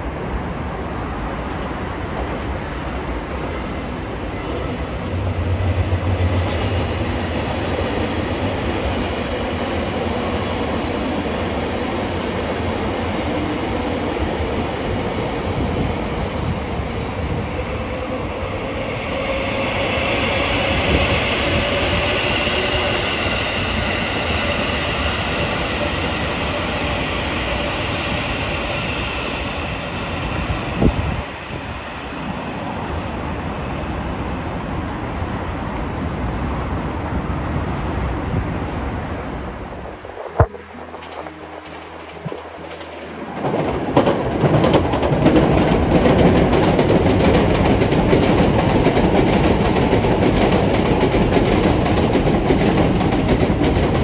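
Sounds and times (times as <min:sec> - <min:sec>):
high steady whine: 0:00.0 - 0:44.5
train wheels rumbling on rail: 0:00.0 - 0:54.0.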